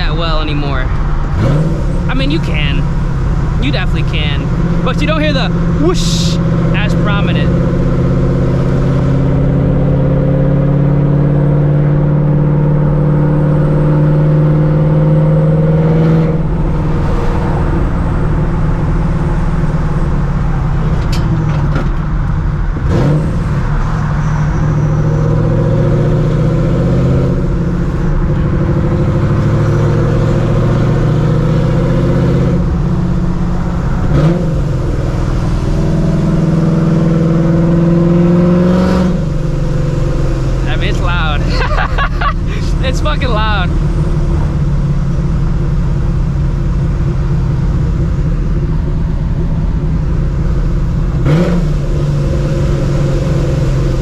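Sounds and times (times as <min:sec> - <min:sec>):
loud car engine accelerating: 0:00.0 - 0:54.0.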